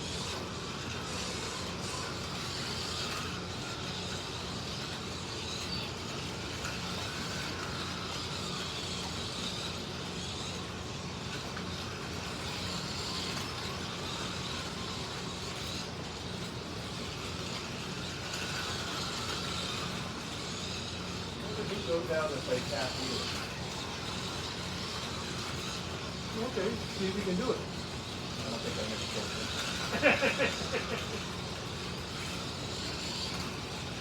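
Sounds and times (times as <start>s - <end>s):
slot car motors whining: 0.0s - 34.0s
steady hiss: 0.0s - 34.0s.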